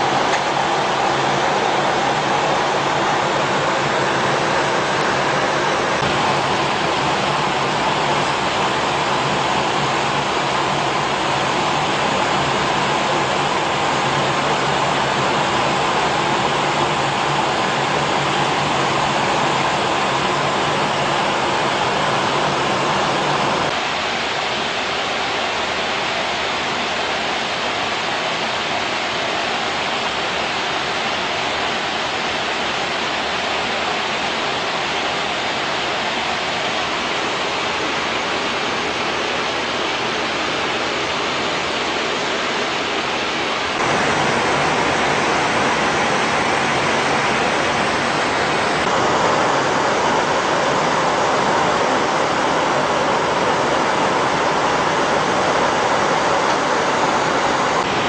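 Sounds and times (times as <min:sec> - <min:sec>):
steady rushing noise: 0:00.0 - 0:58.0.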